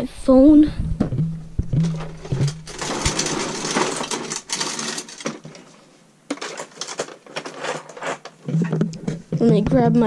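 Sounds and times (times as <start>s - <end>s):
objects rustling and scraping: 1.0s - 10.0s.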